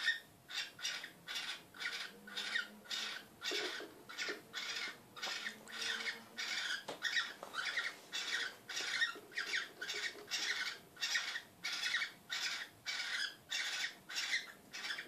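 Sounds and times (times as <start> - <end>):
birds squawking: 0.0 - 15.0.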